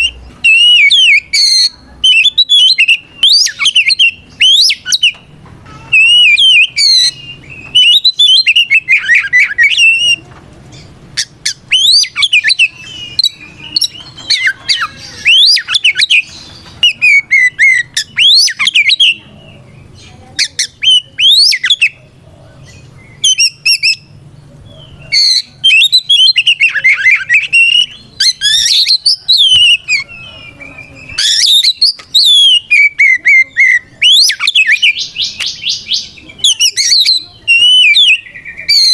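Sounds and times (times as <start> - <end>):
songbird whistling and trilling: 0.0 - 38.9.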